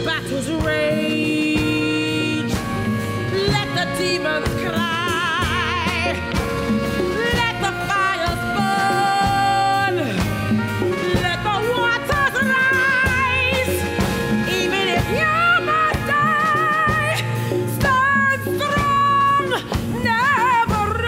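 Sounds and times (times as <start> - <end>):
band accompaniment: 0.0 - 21.0
woman singing with vibrato: 0.0 - 21.0.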